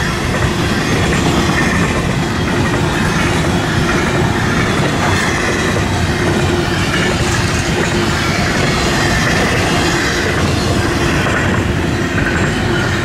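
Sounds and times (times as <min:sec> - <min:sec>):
freight cars rumbling on rails: 0:00.0 - 0:13.0.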